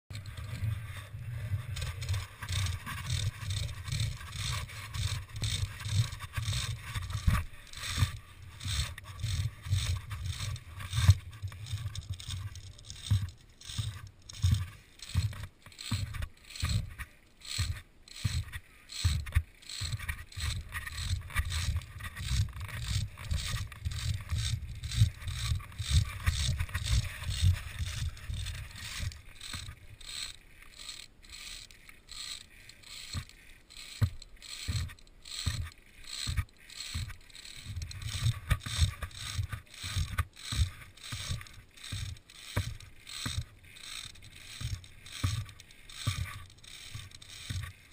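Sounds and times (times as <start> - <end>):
knocks and rustles of gear: 0.1 - 47.9.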